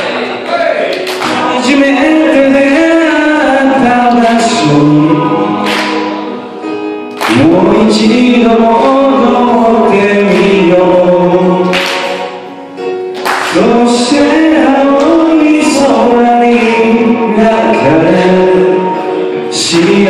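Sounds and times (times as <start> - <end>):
men singing together: 1.2 - 6.3, 7.3 - 12.2, 13.5 - 20.0.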